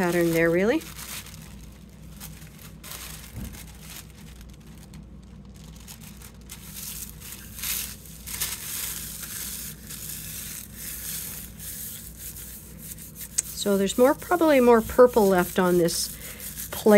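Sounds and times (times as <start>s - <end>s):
tissue paper rustling: 0.0s - 16.9s.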